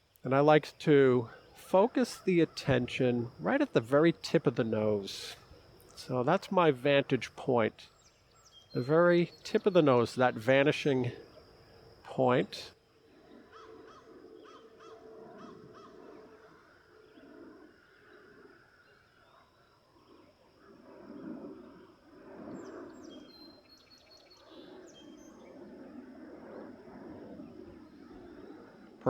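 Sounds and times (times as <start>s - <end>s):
birds chirping: 0.0s - 29.0s
birds twittering: 0.0s - 29.0s.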